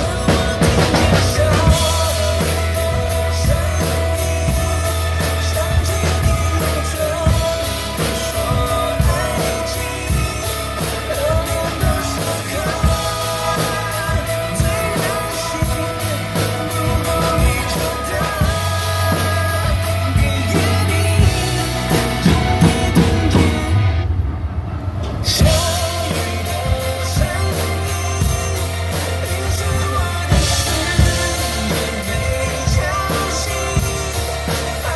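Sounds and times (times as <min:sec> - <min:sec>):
person singing: 0:00.0 - 0:24.1, 0:25.0 - 0:34.9
bass: 0:00.0 - 0:34.9
cymbals: 0:00.0 - 0:34.9
drum kit playing: 0:00.0 - 0:34.9
rock backing song: 0:00.0 - 0:34.9.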